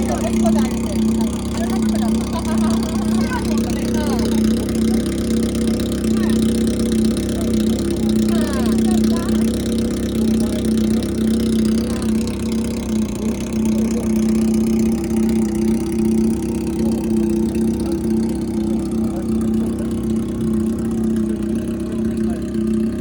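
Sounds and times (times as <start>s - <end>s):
motorcycle engine running steadily: 0.0s - 23.0s.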